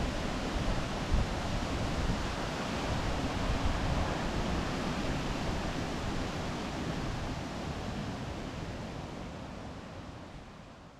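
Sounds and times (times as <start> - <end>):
wind: 0.0 - 10.9.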